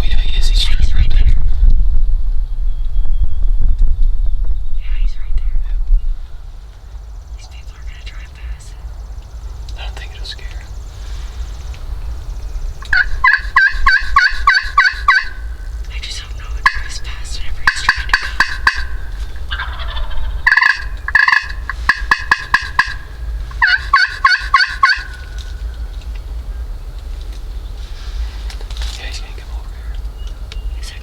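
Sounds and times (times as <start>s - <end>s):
steady low rumble: 0.0s - 31.0s
turkey calling: 6.2s - 31.0s.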